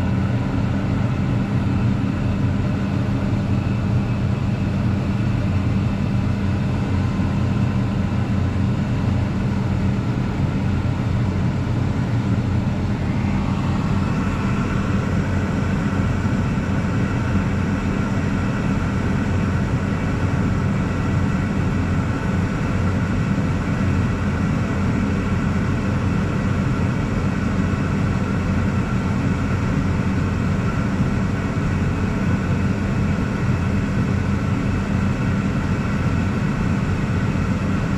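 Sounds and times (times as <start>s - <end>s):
tractor engine droning: 0.0s - 37.9s.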